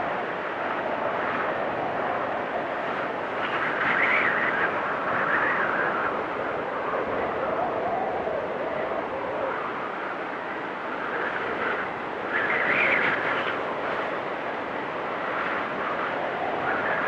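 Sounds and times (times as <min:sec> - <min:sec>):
storm wind howling: 0:00.0 - 0:17.0.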